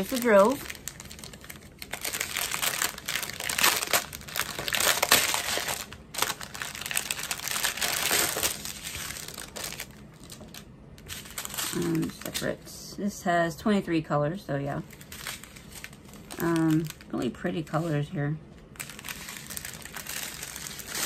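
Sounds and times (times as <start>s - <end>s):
plastic bag crinkling: 0.0s - 12.5s, 14.8s - 17.9s, 18.6s - 21.0s.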